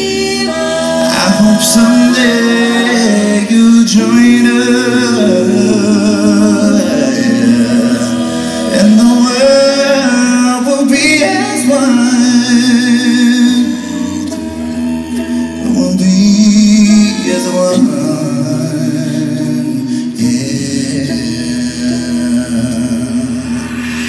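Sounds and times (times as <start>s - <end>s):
man singing lead: 0.0s - 24.0s
vocal harmonies: 0.0s - 24.0s.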